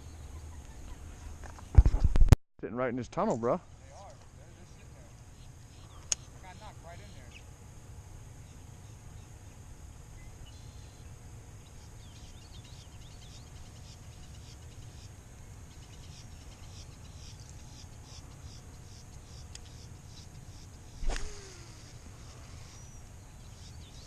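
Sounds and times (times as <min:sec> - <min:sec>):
insect drone: 0:03.6 - 0:24.0.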